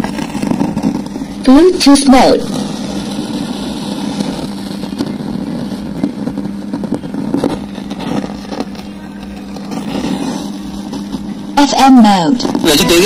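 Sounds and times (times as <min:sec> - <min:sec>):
speaker crackling noise: 0:00.0 - 0:13.0
speaker low hum: 0:00.0 - 0:13.0.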